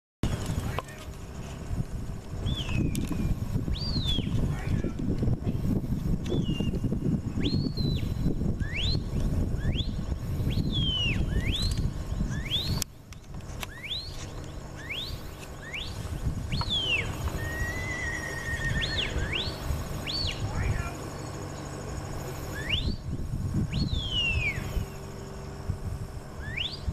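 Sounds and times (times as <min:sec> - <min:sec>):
wind rumbling on microphone: 0:00.2 - 0:26.9.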